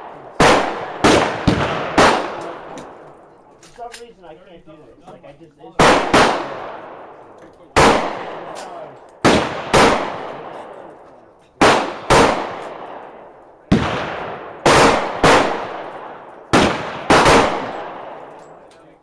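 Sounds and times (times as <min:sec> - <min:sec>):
pistol shots with echo: 0:00.0 - 0:03.3, 0:05.8 - 0:18.6.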